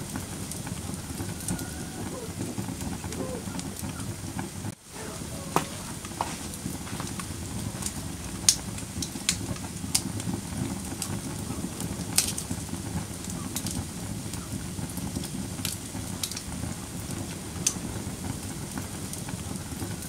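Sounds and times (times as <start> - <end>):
wood fire crackling in fireplace: 0.0 - 20.0.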